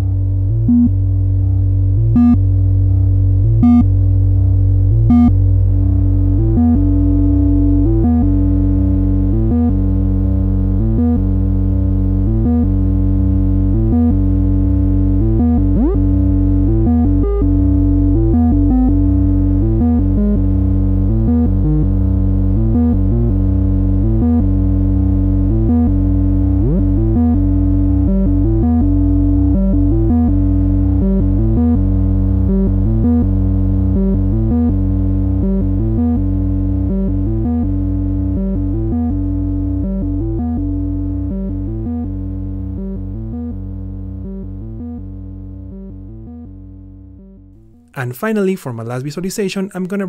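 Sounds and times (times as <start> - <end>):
synthesizer bass sequence: 0.0 - 48.4.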